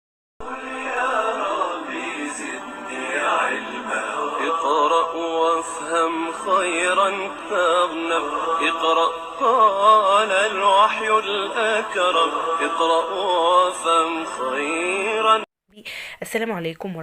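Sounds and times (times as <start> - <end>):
person singing ornamented melody: 0.4 - 15.5.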